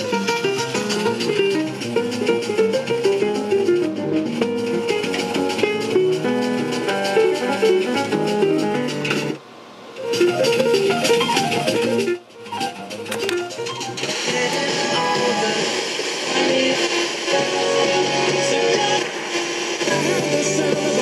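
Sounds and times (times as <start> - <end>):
faint radio hiss: 0.0 - 21.0
music through radio speaker: 0.0 - 21.0.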